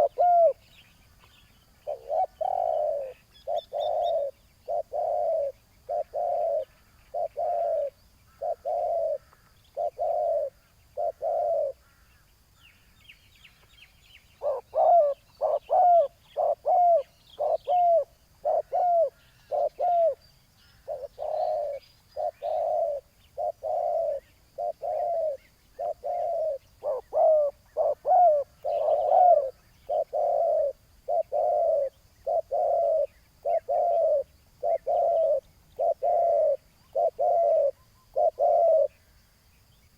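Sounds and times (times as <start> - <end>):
doves cooing: 0.0 - 0.7, 1.8 - 12.2, 14.4 - 39.1
small birds chirping: 0.0 - 39.9.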